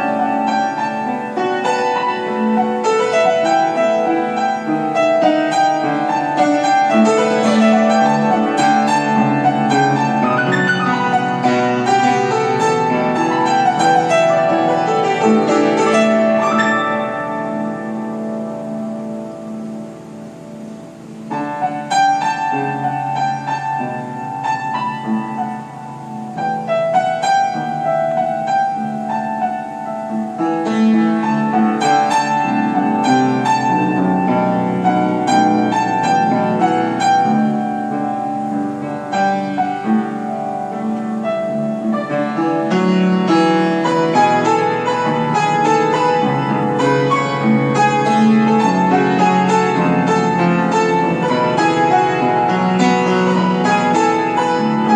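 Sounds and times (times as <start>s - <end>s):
piano melody over chords: 0.0s - 54.9s.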